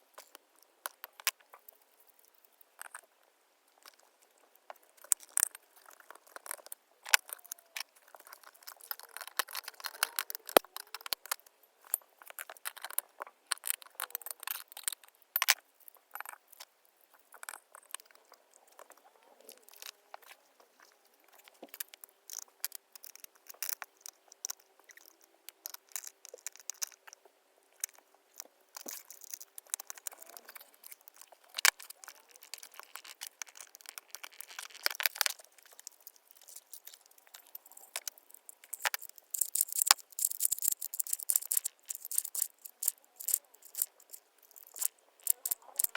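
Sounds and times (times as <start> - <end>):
small hard parts clicking and rattling: 0.0 - 45.9.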